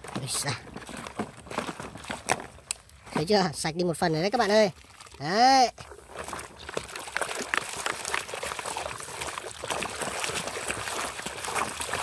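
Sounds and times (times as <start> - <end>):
water sloshing in a tub: 0.0 - 12.0.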